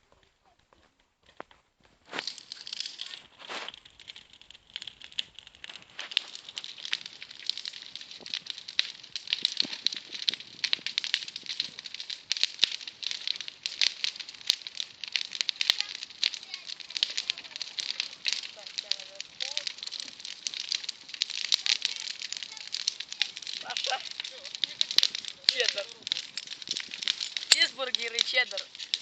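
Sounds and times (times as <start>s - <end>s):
bonfire crackling and popping: 0.0s - 29.0s.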